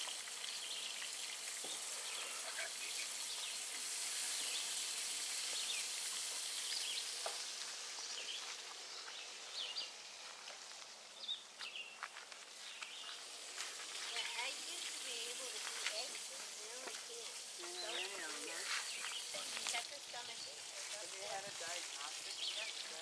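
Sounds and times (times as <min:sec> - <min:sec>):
food sizzling on a grill: 0:00.0 - 0:23.0.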